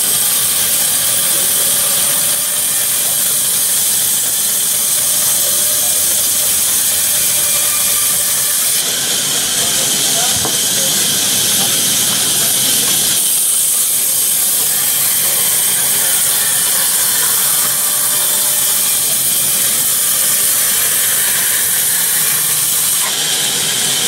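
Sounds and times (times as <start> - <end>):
band saw blade cutting log: 0.0 - 24.0.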